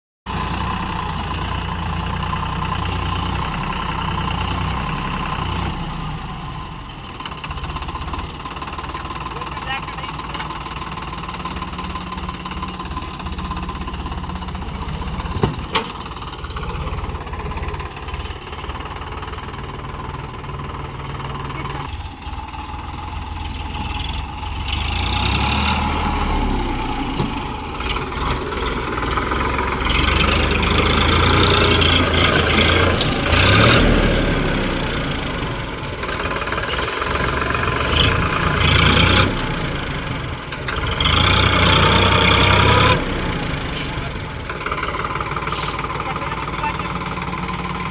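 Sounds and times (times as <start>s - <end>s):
tractor diesel engine running: 0.2s - 47.9s.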